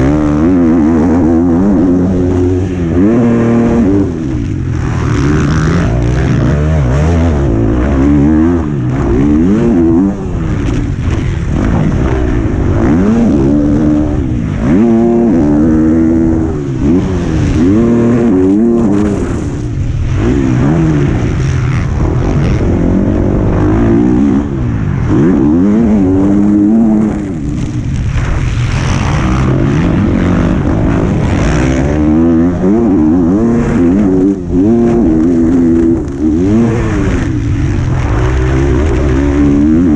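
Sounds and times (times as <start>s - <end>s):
low wind rumble: 0.0s - 39.9s
motocross bike engine revving: 0.0s - 39.9s.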